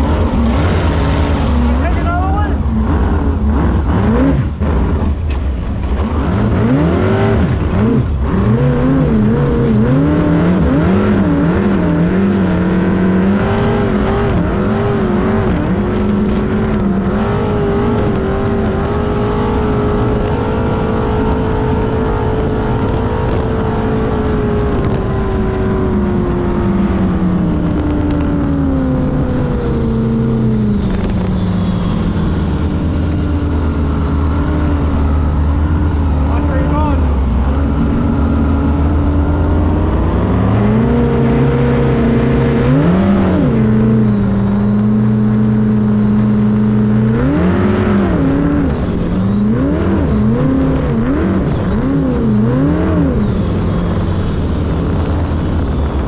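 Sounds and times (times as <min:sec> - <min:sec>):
boat engine running hard: 0:00.0 - 0:56.0.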